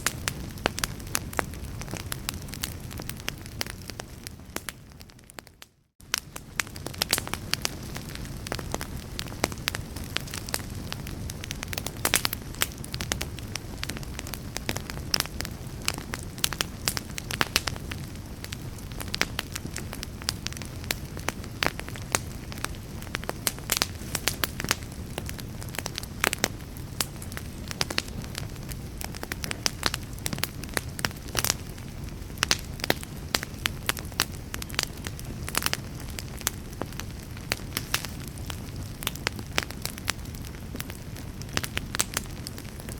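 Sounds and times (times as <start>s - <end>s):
low rumble of burning: 0.0s - 42.9s
wood fire crackling: 0.0s - 42.9s.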